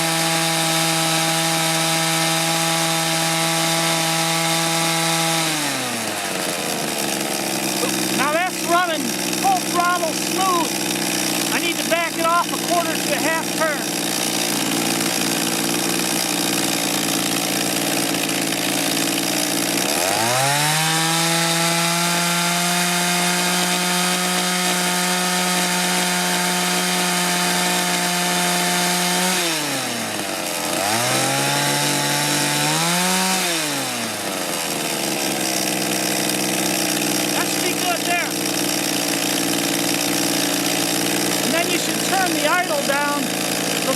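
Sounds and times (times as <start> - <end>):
two-stroke tiller engine running: 0.0 - 43.9.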